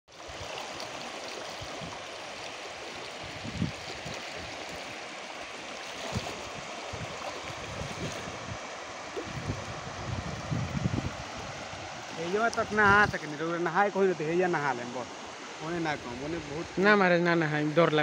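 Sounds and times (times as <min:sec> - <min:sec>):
water rushing: 0:00.1 - 0:18.0.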